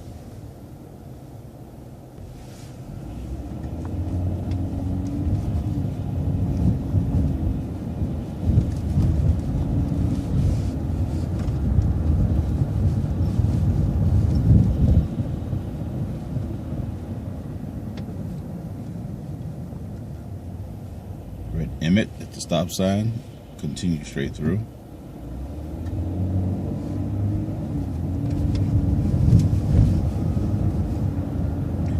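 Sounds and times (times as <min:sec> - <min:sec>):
bus engine accelerating: 0:00.0 - 0:31.9.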